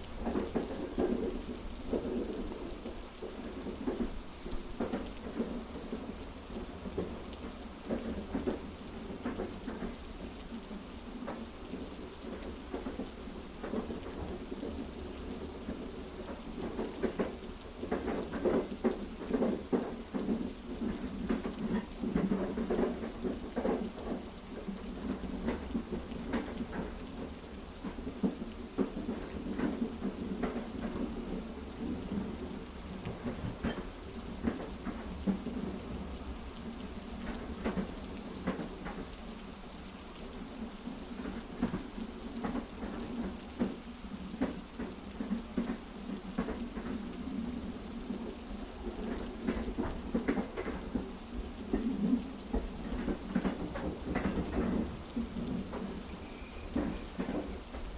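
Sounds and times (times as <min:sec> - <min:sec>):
heavy rain: 0:00.0 - 0:57.9
train wheels clacking on rails: 0:00.2 - 0:39.5, 0:40.4 - 0:57.9.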